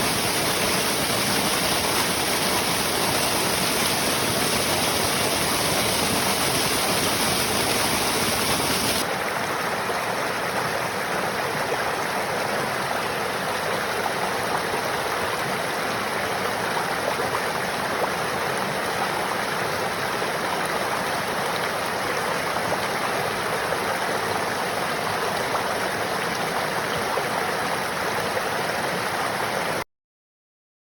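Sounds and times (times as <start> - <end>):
stream rushing water: 0.0 - 29.8.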